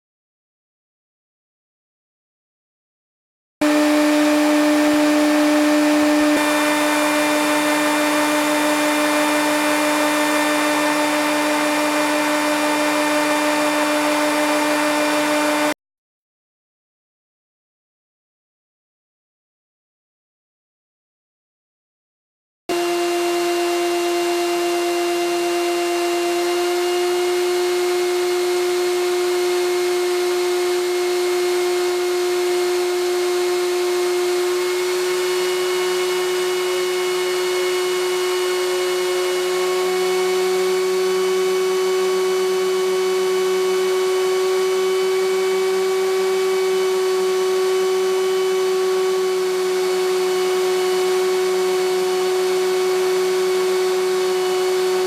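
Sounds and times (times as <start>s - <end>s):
fan motor high whine: 3.6s - 15.8s, 22.7s - 55.0s.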